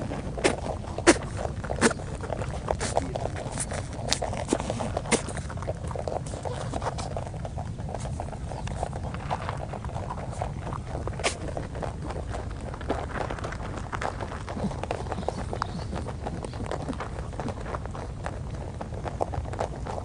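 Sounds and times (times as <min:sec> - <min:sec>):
low steady rumble: 0:00.0 - 0:20.0
rabbits crunching feed pellets: 0:00.0 - 0:20.0.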